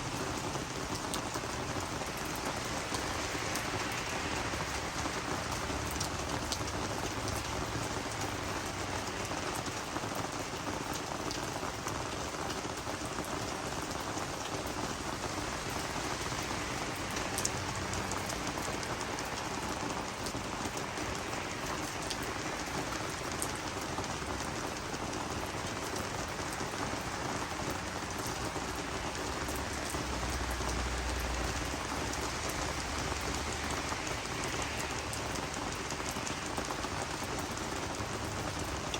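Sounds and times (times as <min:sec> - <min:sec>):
rain falling on plants: 0:00.0 - 0:38.9.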